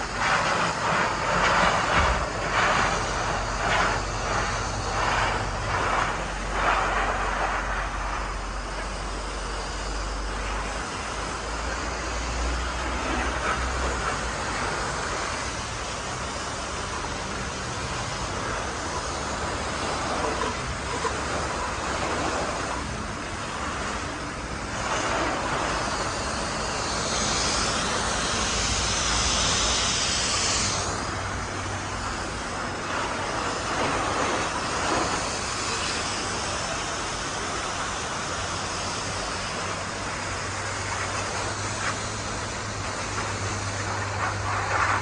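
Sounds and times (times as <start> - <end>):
pressure washer motor hum: 0.0 - 45.0
pressure washer spraying water: 0.0 - 45.0.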